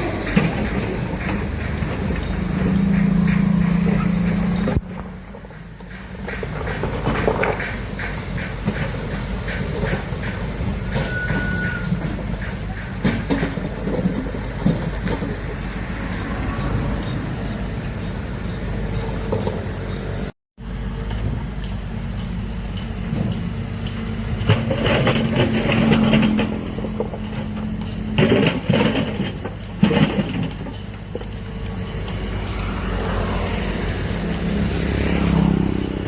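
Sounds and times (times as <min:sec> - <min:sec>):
metallic clanks and knocks: 0:00.0 - 0:20.3, 0:21.1 - 0:36.0
heavy machinery engine drone: 0:00.0 - 0:36.0.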